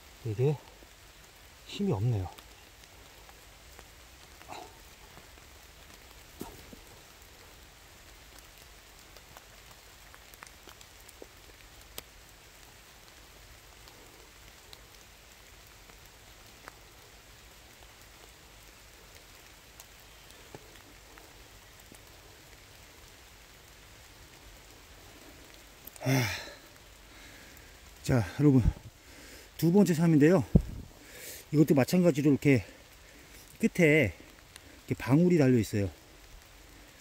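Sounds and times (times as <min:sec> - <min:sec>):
light rain falling: 0:00.0 - 0:37.0
raindrops ticking: 0:00.0 - 0:37.0.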